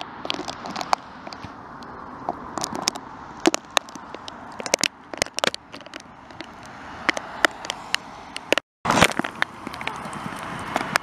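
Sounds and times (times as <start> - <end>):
rain crackling on microphone: 0.0 - 11.0.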